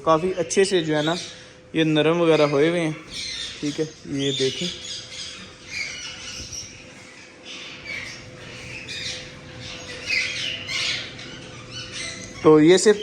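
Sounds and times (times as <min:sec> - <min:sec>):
parrots squawking and chattering: 0:00.0 - 0:13.0.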